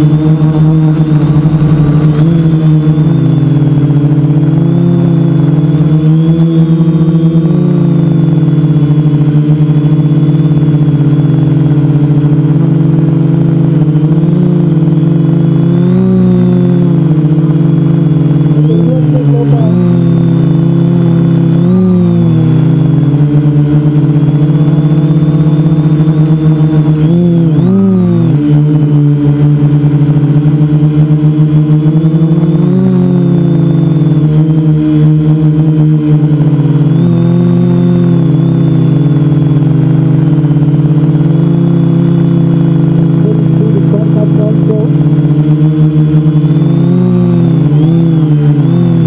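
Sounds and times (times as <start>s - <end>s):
drone motors buzzing hum: 0.0s - 49.0s.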